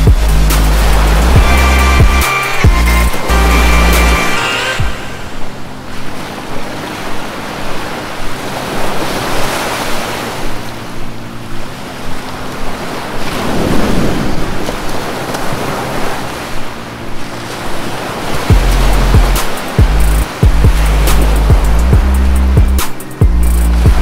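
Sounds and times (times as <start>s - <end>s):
river rapid rushing: 0.0s - 24.0s.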